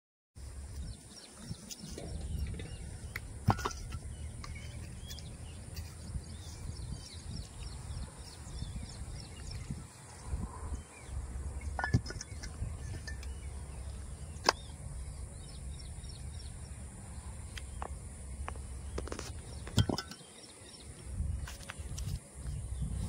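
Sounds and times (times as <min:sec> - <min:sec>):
small birds chirping: 0:00.4 - 0:23.0.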